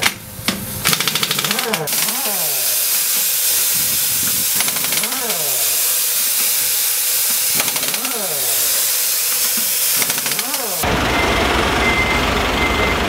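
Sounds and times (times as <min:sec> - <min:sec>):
impact wrench whirring: 0:00.0 - 0:10.9
air hissing: 0:00.2 - 0:10.8.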